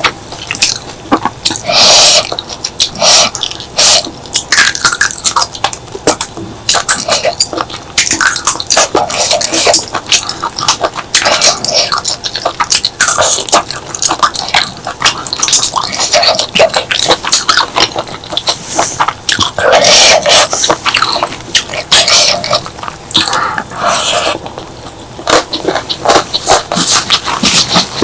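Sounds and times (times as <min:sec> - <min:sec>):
wet chewing and lip smacks: 0:00.0 - 0:28.0.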